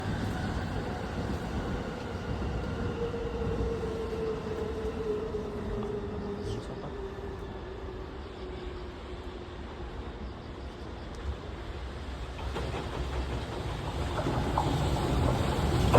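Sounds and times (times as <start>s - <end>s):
faint locomotive whine: 0.0s - 15.9s
train wheels rumbling on rail: 0.0s - 15.9s.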